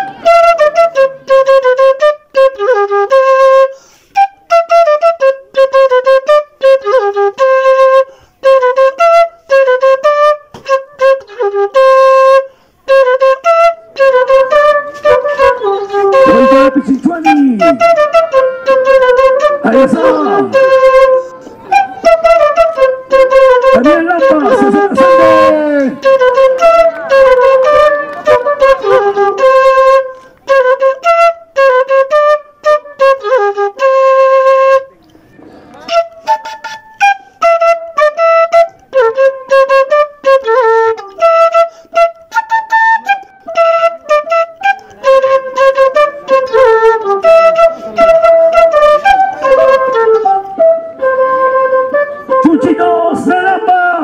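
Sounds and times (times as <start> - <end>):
lively flute melody: 0.0 - 54.0.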